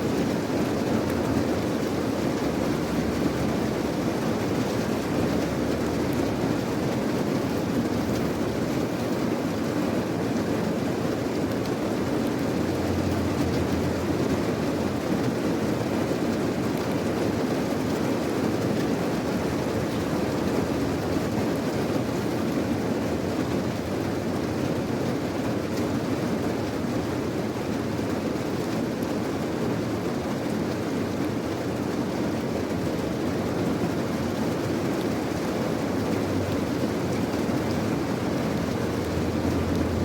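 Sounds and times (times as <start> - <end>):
steady rain: 0.0 - 40.0
ticks of raindrops: 0.0 - 40.0.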